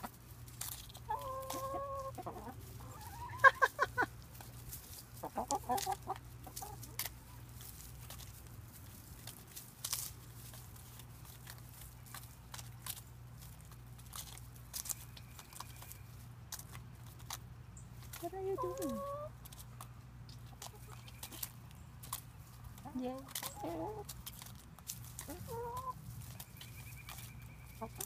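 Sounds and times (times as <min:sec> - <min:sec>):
hens clucking: 0:00.0 - 0:28.0
beaks pecking cabbage: 0:00.1 - 0:28.0.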